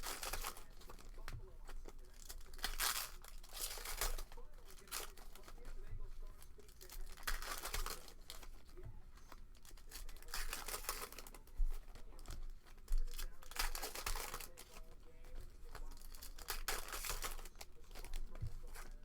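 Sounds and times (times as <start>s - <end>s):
foil packs tearing: 0.0s - 19.0s
wrappers crinkling: 0.0s - 19.0s.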